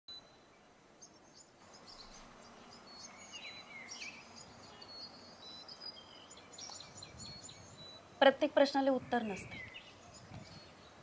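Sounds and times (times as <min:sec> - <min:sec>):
faint outdoor background noise: 0:00.1 - 0:11.0
birds chirping and whistling: 0:01.0 - 0:08.4, 0:09.0 - 0:11.0.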